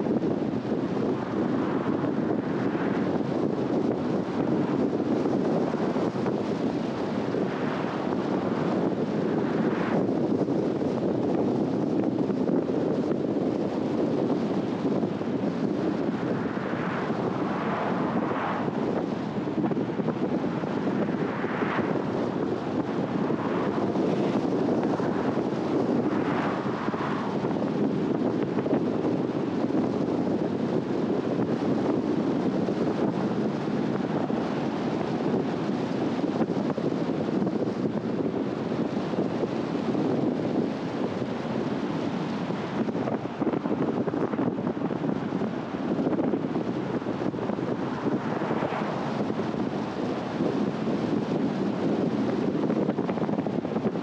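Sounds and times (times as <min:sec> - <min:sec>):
road noise: 0:00.0 - 0:54.0
wind noise: 0:00.0 - 0:54.0.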